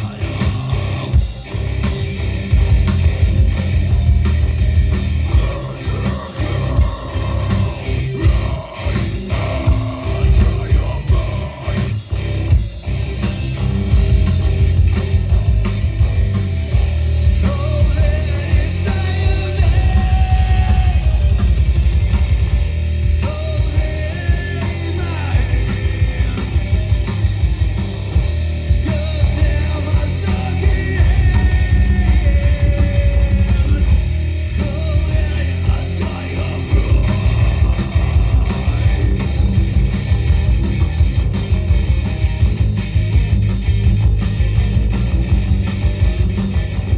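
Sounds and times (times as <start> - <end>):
heavy rock band playing live: 0.0 - 46.9.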